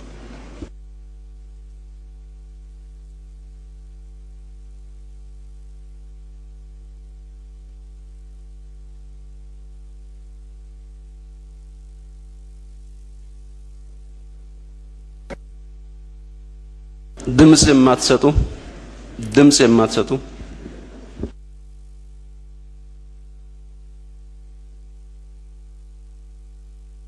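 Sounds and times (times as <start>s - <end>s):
faint hiss: 0.0s - 25.2s
electrical mains hum: 0.0s - 27.0s.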